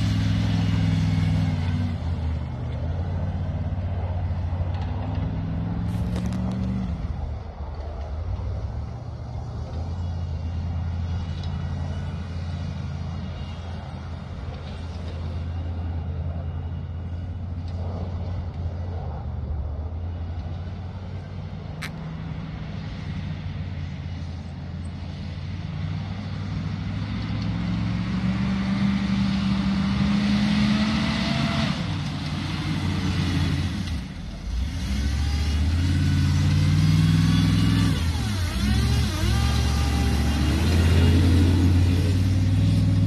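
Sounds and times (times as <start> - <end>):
diesel truck engine revving: 0.0 - 18.7, 25.0 - 43.0.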